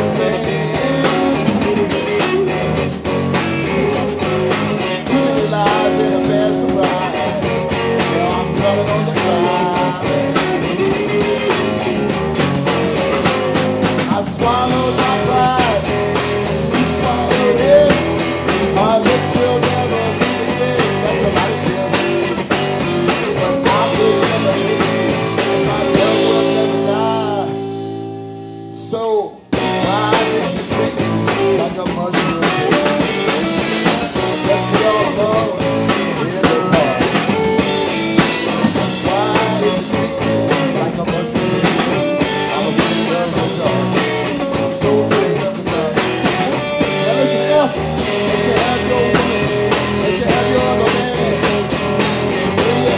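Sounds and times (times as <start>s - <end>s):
man singing: 0.0s - 28.0s, 28.6s - 52.9s
blues-rock band playing: 0.0s - 52.9s.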